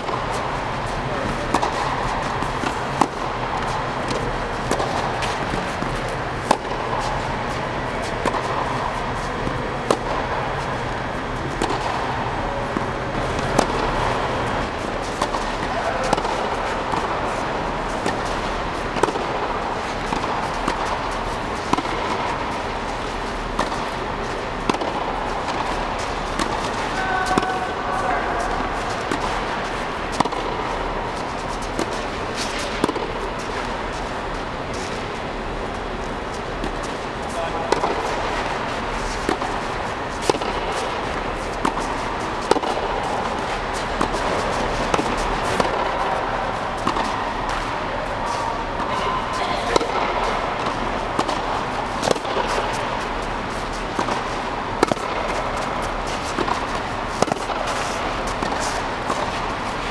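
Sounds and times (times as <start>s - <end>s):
tennis balls struck by racquets: 0.0s - 59.9s.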